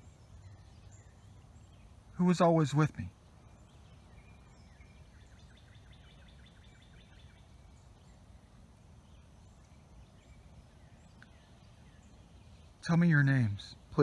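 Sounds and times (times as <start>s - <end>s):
distant bird chirping: 0.0s - 14.0s
faint high bird calls: 0.0s - 14.0s.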